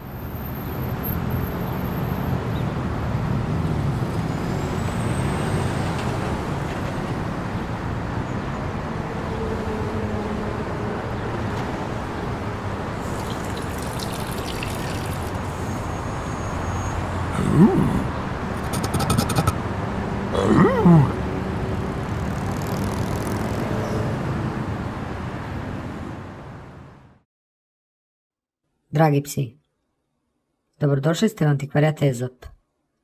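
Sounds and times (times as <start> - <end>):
traffic rumble: 0.5 - 27.0.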